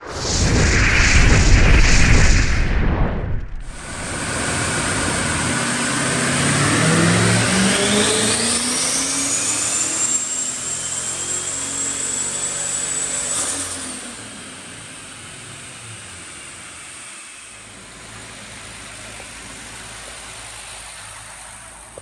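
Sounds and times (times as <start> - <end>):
engine accelerating hard: 3.6 - 22.0.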